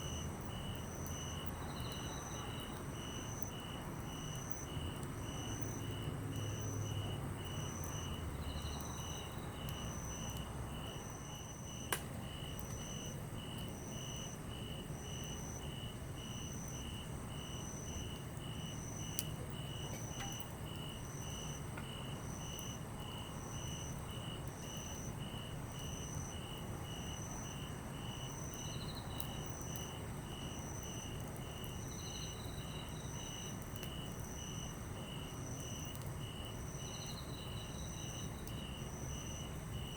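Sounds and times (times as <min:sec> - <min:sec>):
campfire rumble: 0:00.0 - 0:39.9
insects chirping: 0:00.0 - 0:39.9
wood popping in fire: 0:00.0 - 0:39.9.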